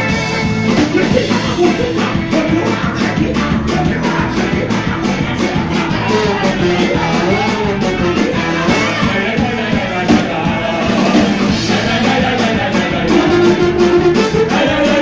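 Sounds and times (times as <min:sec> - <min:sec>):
punk band playing: 0:00.0 - 0:15.0
men singing together: 0:00.8 - 0:15.0.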